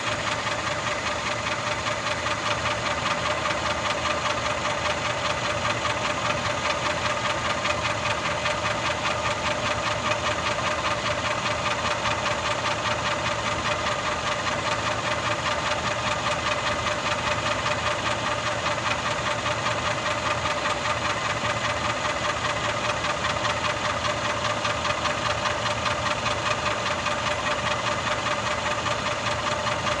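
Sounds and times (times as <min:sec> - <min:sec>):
car engine idling with ticking knock: 0:00.0 - 0:30.0.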